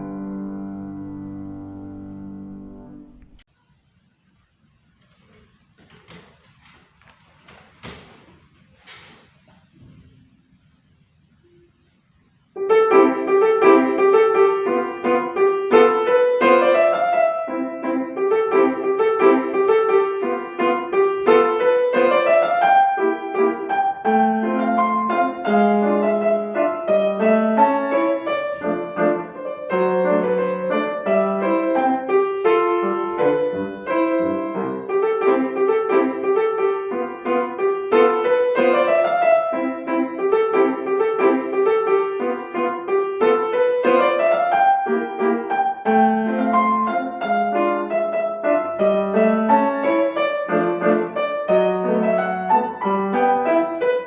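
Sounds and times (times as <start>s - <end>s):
piano classical piece: 0.0s - 3.6s, 6.1s - 54.0s.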